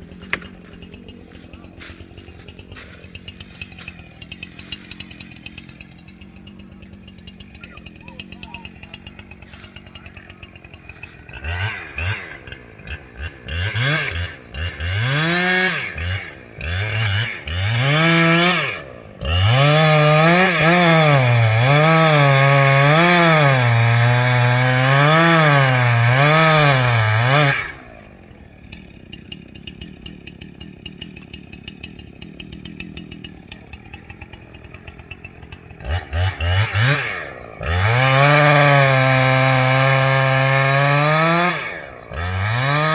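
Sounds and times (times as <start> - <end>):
chainsaw revving and cutting wood: 0.0 - 42.9.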